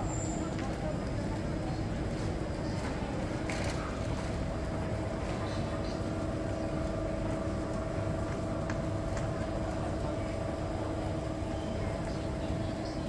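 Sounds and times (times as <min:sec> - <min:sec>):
low city drone: 0:00.0 - 0:13.0
murmur of voices: 0:00.0 - 0:13.0.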